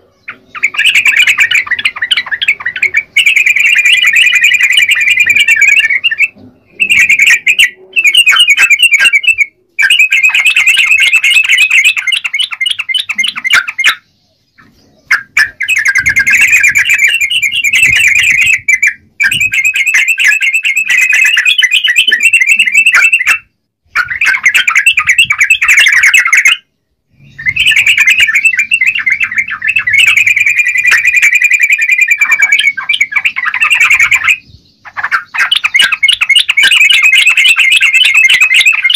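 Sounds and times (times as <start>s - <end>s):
bird singing rapid chattering phrases: 0.0s - 38.9s.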